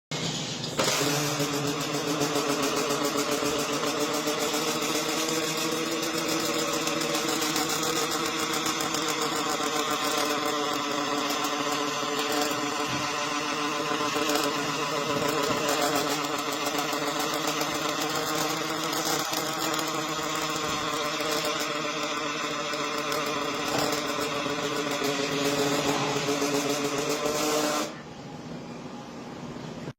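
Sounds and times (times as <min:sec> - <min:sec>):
machinery mechanical drone: 0:00.1 - 0:29.9.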